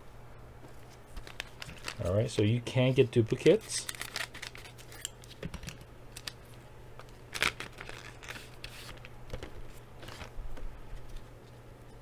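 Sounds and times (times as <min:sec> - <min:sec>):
card packaging rustling: 0:00.7 - 0:11.4.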